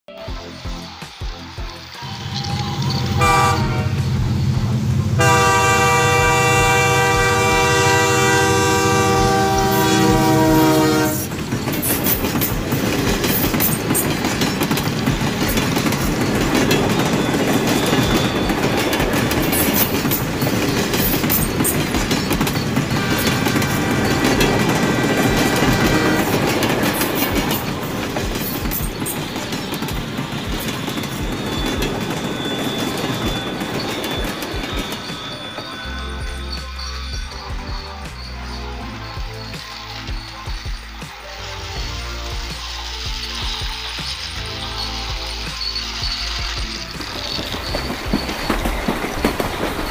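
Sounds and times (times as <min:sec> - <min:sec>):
toy train motor and wheels rattling: 0:00.3 - 0:49.9
toy train horn tone: 0:02.0 - 0:48.8.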